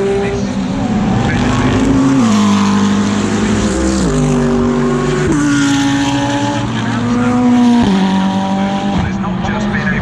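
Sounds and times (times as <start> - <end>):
race car engine under load: 0.0 - 10.0.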